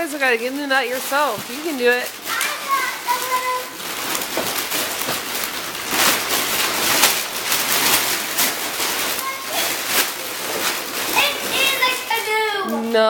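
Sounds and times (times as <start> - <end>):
wrapping paper tearing and crumpling: 0.0 - 13.0.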